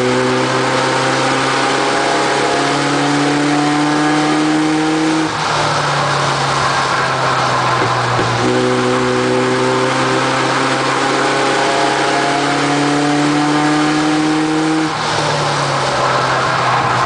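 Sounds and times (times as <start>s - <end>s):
race truck engines running hard: 0.0s - 17.0s.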